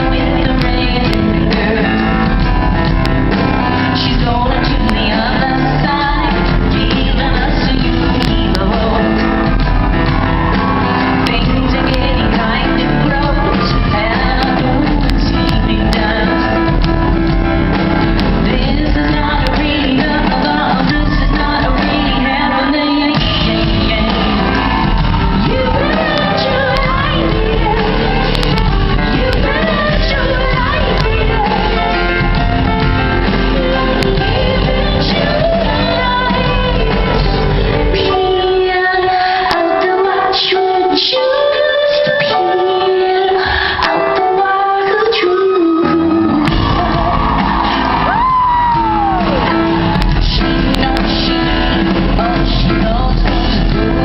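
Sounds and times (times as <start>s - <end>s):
live rock band: 0.0s - 54.0s
woman singing: 0.0s - 54.0s.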